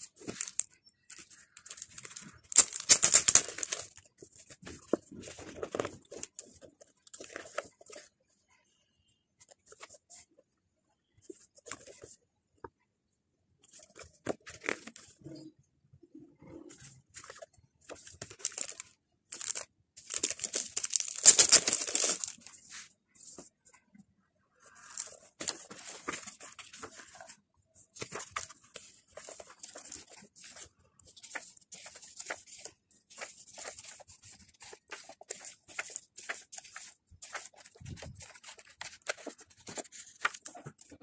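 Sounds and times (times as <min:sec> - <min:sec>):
paper rustling and pages turning: 0:00.0 - 0:08.1, 0:09.4 - 0:10.3, 0:11.2 - 0:12.2, 0:13.6 - 0:15.4, 0:16.6 - 0:23.8, 0:24.6 - 0:41.0.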